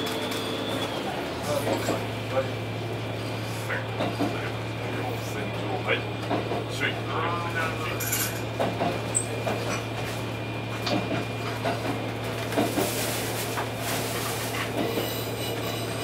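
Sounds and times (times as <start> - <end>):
railcar engine hum: 0.0 - 16.0
wheels clacking on rails: 0.0 - 16.0.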